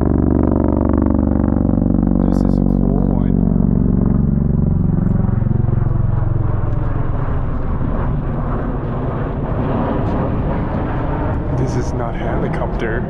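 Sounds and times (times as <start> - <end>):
airplane engine drone: 0.0 - 13.0.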